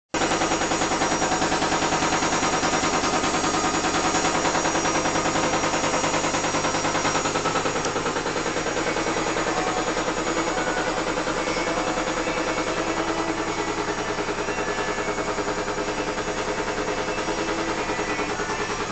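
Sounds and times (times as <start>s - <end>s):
rapid pulsing rattle: 0.2s - 18.9s
steady hum: 0.2s - 18.9s.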